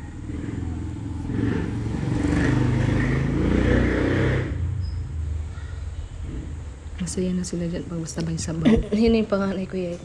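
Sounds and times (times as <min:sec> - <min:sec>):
vehicle engine rumbling: 0:00.0 - 0:09.3.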